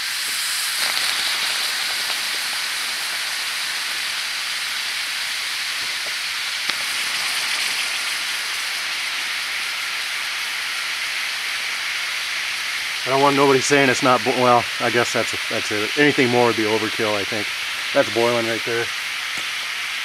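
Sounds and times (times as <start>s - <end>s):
hot rock hissing in water: 0.0s - 20.0s.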